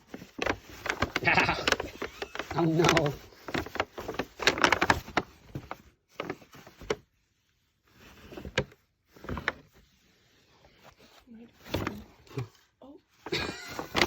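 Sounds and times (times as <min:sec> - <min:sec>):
paper bag rustling and crinkling: 0:00.0 - 0:14.0.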